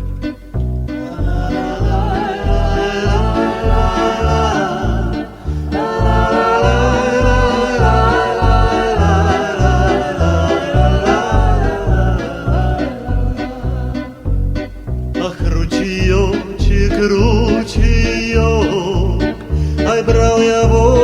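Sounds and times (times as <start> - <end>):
plucked bass and chords: 0.0 - 21.0
wordless wavering vocal melody: 0.9 - 21.0.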